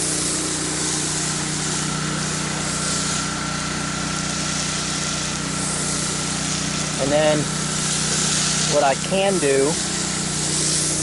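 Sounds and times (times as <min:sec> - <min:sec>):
pressure washer engine running: 0:00.0 - 0:11.0
water jet hissing on concrete: 0:00.0 - 0:11.0.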